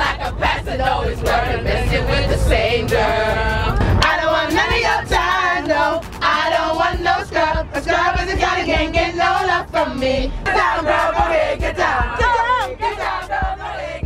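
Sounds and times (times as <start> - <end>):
regular beat: 0.0 - 13.8
group singing: 0.0 - 14.0.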